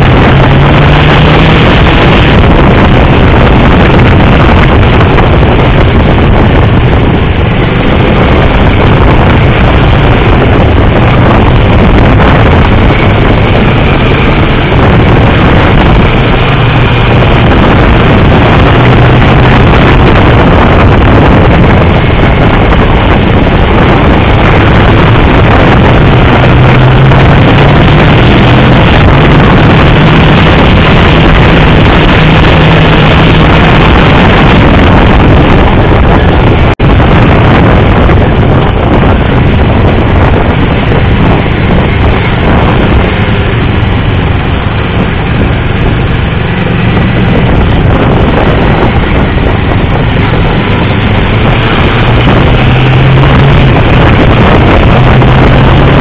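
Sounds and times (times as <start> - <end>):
motorcycle engine: 0.0 - 56.0
wind rush over microphone: 0.0 - 56.0.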